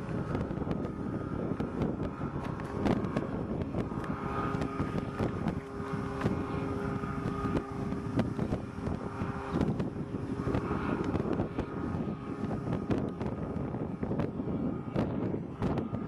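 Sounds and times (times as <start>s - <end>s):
small engine droning: 0.0s - 16.0s
wind buffeting microphone: 0.0s - 16.0s.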